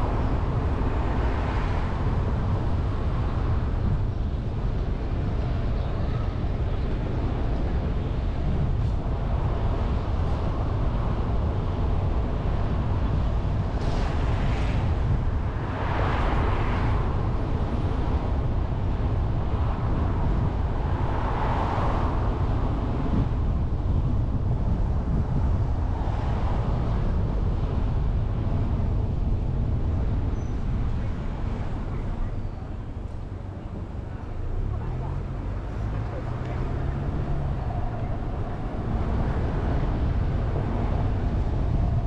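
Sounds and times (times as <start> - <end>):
car road noise: 0.0 - 42.0
vehicles passing: 0.0 - 42.0.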